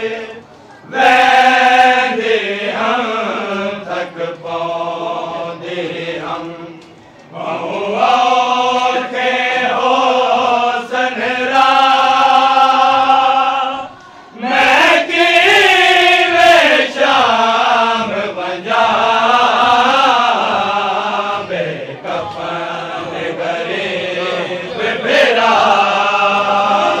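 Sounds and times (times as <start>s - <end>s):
men chanting together: 0.0s - 27.0s.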